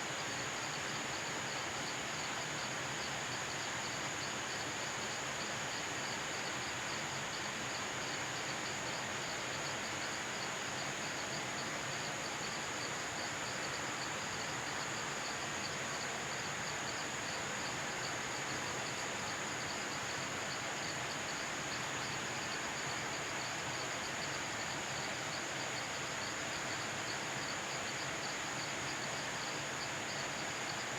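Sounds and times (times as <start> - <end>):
background hiss: 0.0 - 30.9.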